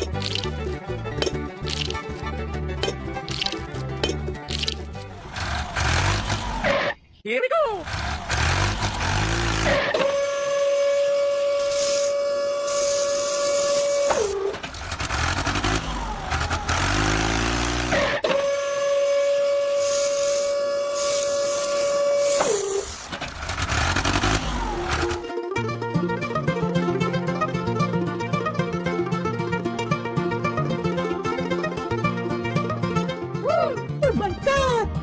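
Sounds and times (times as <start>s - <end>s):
truck engine rumble: 0.0s - 6.8s, 7.8s - 10.0s, 11.6s - 18.2s, 19.9s - 33.3s.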